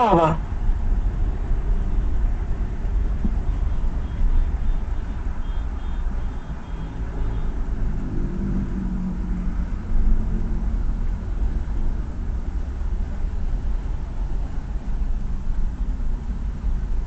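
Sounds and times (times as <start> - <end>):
car road and engine rumble: 0.0 - 17.0
engine hum: 0.0 - 17.0.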